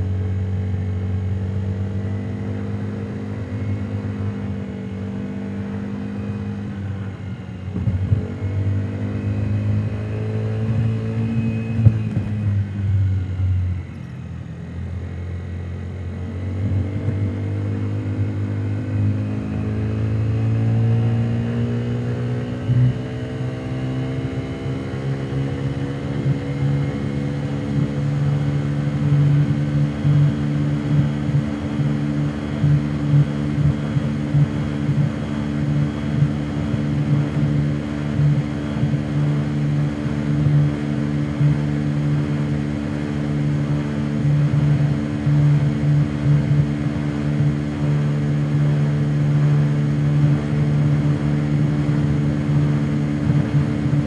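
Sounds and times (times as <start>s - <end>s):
muffled scooter engine: 0.0s - 54.0s.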